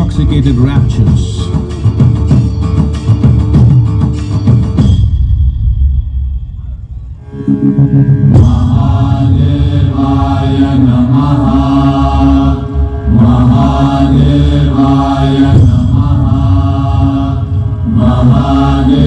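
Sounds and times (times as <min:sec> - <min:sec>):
musical accompaniment: 0:00.0 - 0:19.0.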